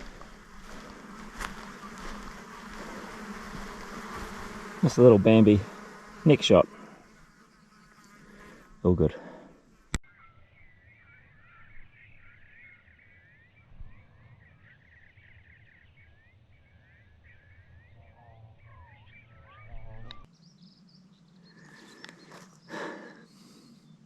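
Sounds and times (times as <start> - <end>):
low bird calls: 0.0 - 4.8, 5.8 - 24.0
small birds twittering: 0.0 - 9.1, 10.1 - 24.0.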